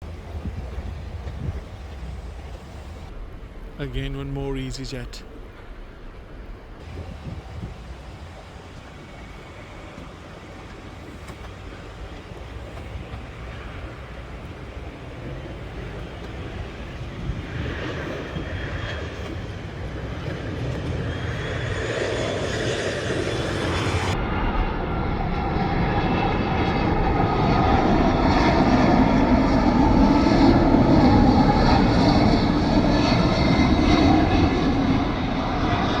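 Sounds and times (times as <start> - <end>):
jet engines rumbling: 0.0 - 36.0.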